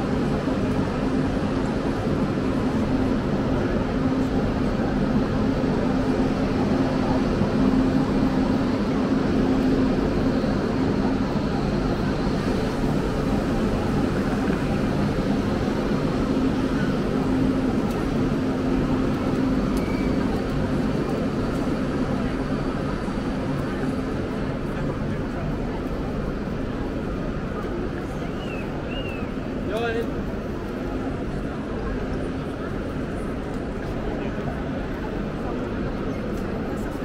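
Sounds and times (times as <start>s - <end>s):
faint murmur of voices: 0.0s - 37.0s
station hall rumble and hum: 0.0s - 37.0s.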